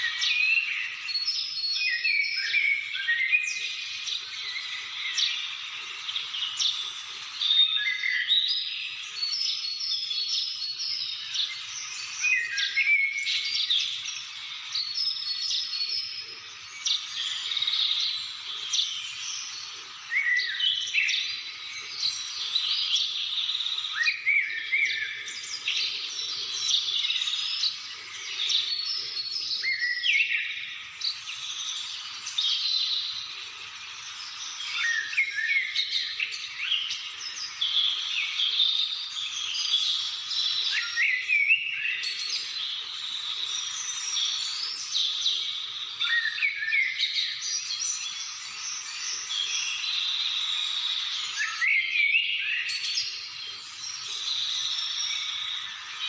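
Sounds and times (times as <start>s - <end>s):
birds chorus chirping and whistling: 0.0s - 56.0s.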